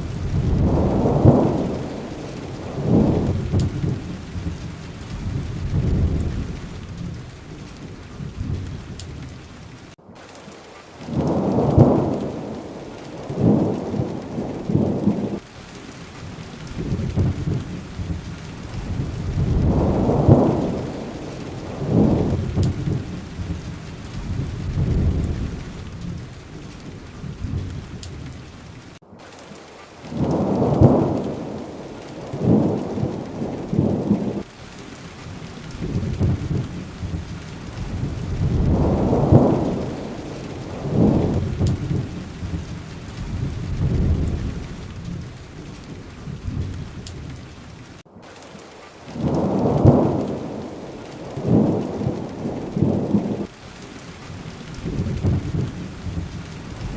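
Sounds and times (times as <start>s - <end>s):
thunder rolling: 0.0s - 9.9s, 11.0s - 15.4s, 16.3s - 29.0s, 30.1s - 34.5s, 35.3s - 48.0s, 49.1s - 53.6s, 54.3s - 56.9s
steady rain: 0.0s - 56.9s.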